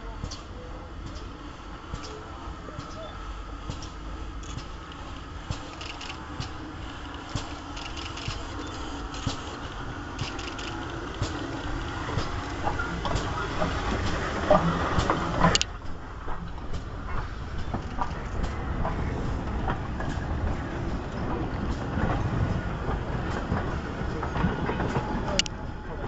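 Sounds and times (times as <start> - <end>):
train rumbling past: 0.0 - 26.0
wheels clicking on rails: 0.2 - 26.0.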